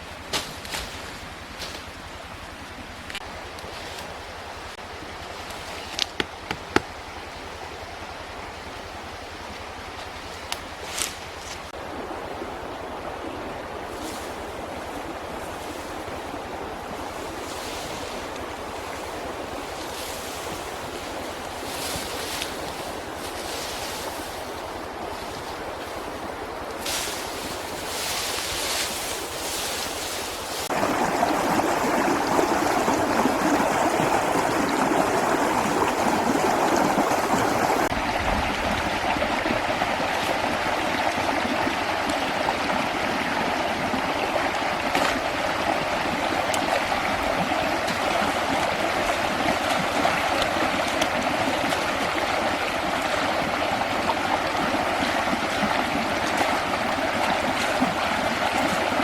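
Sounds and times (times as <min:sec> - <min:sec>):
running water: 0:01.2 - 0:59.0.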